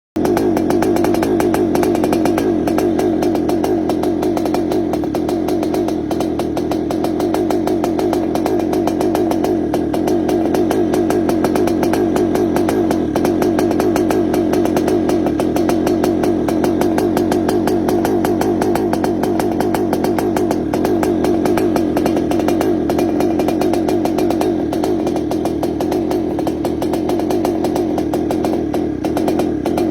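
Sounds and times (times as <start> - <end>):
two-stroke motorcycle engine running: 0.2 - 29.9.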